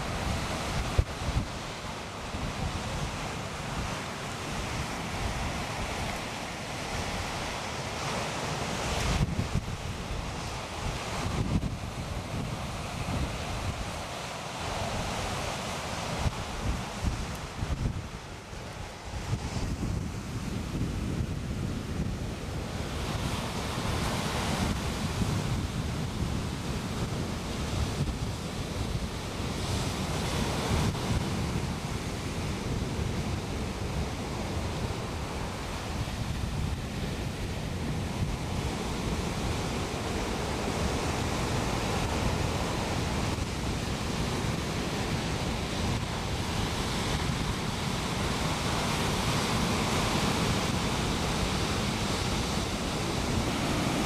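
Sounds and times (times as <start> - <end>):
surf washing up beach: 0.0 - 54.0
wind buffeting microphone: 0.0 - 54.0.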